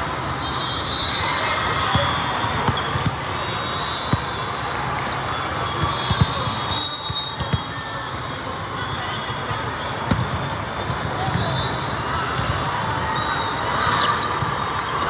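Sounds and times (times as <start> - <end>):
busy sports hall din: 0.0 - 15.0.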